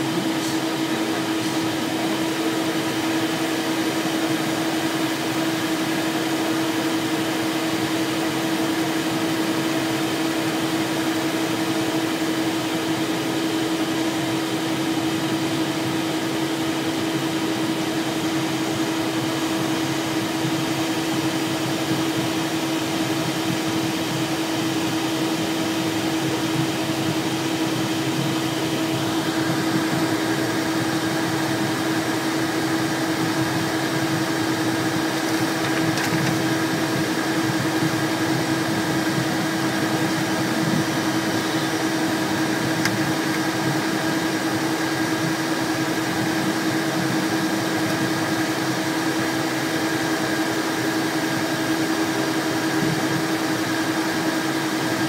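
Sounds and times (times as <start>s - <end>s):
jet engine hiss in cockpit: 0.0s - 55.0s.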